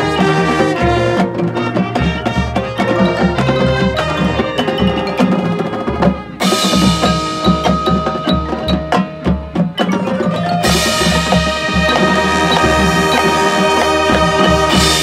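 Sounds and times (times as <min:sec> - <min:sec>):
drums: 0:00.0 - 0:15.0
marching band playing: 0:00.0 - 0:15.0
marimbas: 0:00.0 - 0:15.0.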